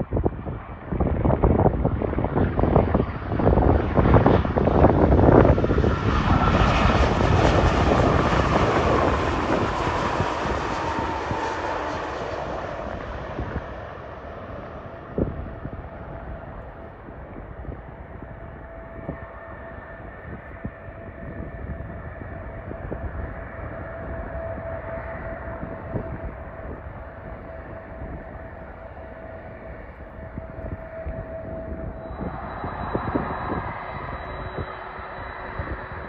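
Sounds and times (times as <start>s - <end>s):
jet engines rumbling and whining: 0.0s - 36.0s.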